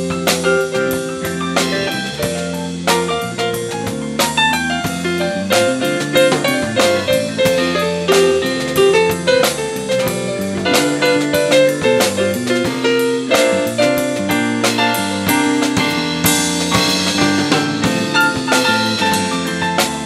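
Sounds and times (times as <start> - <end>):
drum kit groove: 0.0 - 20.0
keyboard chords: 0.0 - 20.0.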